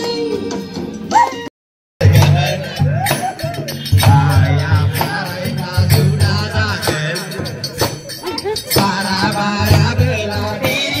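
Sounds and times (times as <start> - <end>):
loud percussion beat: 2.0 - 11.0
man singing through microphone: 2.0 - 11.0.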